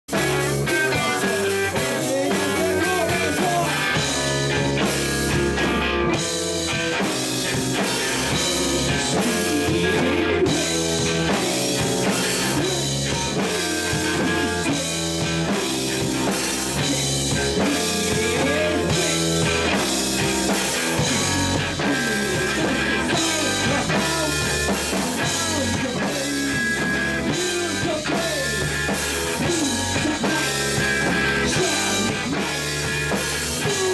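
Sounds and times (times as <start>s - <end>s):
drum kit: 0.1s - 33.9s
electric guitars: 0.1s - 33.9s.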